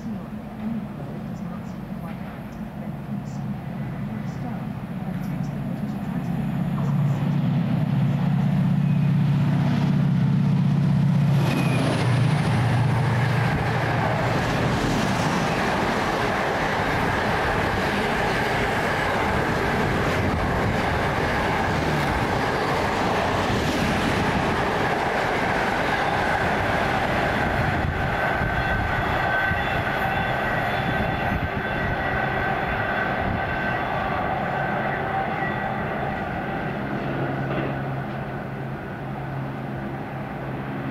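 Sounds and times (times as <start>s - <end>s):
train wheels rolling on rails: 0.0s - 40.7s.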